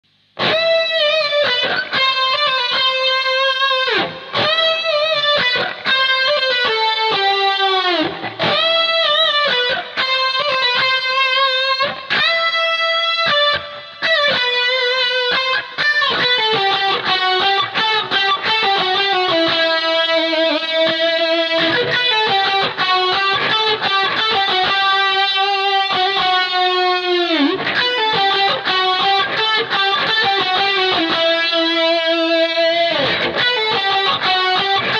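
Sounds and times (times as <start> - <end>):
overdriven electric guitar: 0.0 - 34.9.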